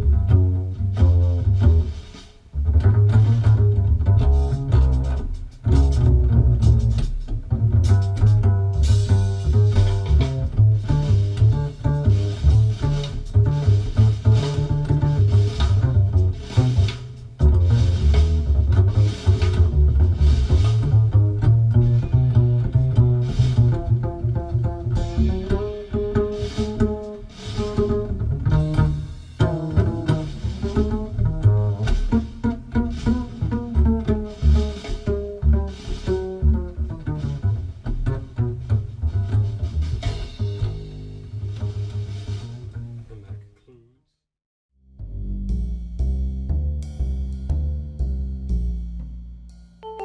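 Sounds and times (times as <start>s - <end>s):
music with deep bass: 0.0s - 42.6s, 44.8s - 50.0s
string notes: 0.0s - 43.5s, 45.0s - 50.0s.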